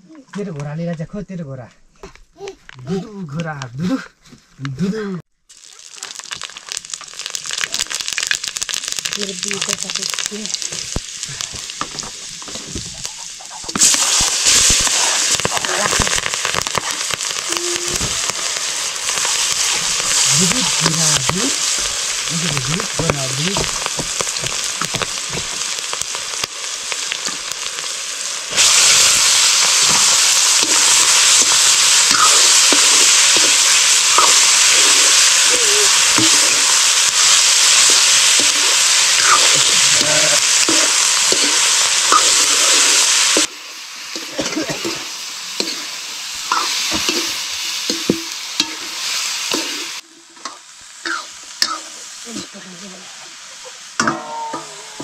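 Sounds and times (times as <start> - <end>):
meat sizzling in hot oil: 5.5 - 55.0.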